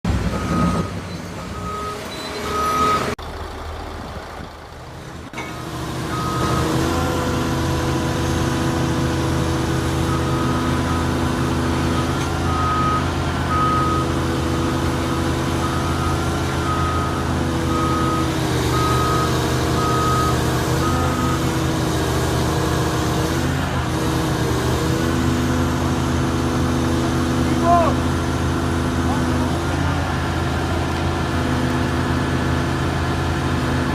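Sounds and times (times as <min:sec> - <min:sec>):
heavy diesel machinery running: 0:00.0 - 0:33.9.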